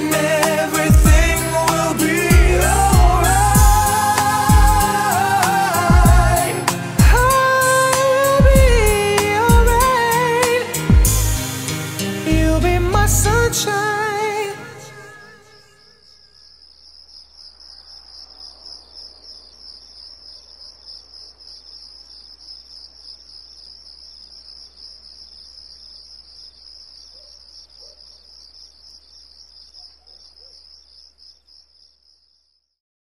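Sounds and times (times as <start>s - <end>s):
crickets chirping: 0.0s - 12.1s, 13.6s - 32.8s.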